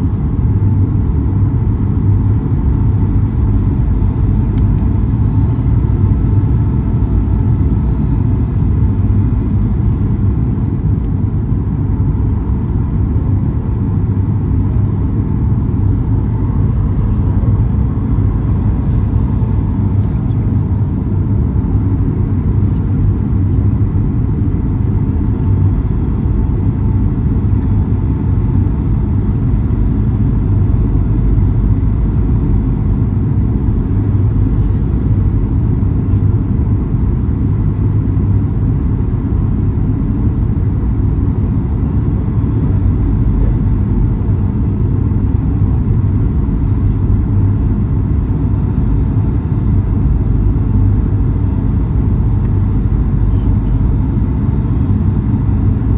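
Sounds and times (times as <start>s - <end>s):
jet cabin engine roar: 0.0s - 55.9s.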